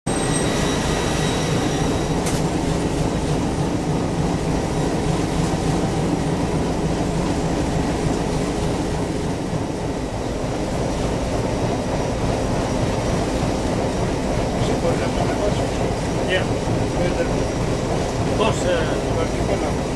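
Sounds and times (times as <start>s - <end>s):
marine diesel engines droning: 0.1s - 19.9s.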